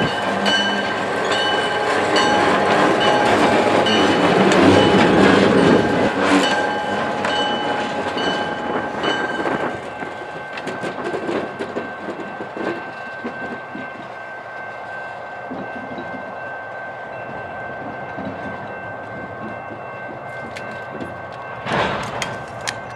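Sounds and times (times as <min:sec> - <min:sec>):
train wheels clacking over rail joints: 0:00.0 - 0:16.4, 0:17.3 - 0:22.9.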